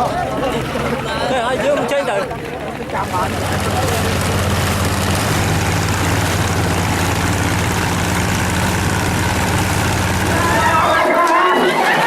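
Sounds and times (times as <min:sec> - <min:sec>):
motor engine running: 0:00.0 - 0:11.1.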